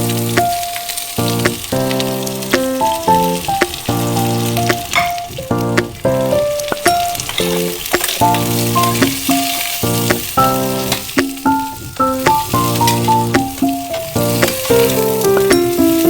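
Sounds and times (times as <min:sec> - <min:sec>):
background music with melody: 0:00.0 - 0:16.0
pasta sizzling in hot oil: 0:00.0 - 0:16.0
stirring clicks: 0:00.0 - 0:16.0.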